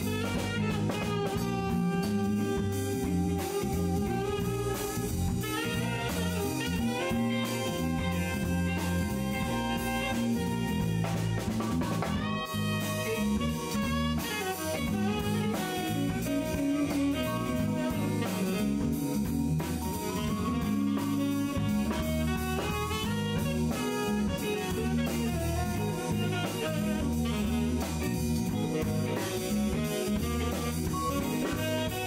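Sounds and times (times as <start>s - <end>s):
drum kit: 0.0s - 32.0s
electric bass: 0.0s - 32.0s
keyboard: 0.0s - 32.0s
saxophone lead: 0.0s - 32.0s.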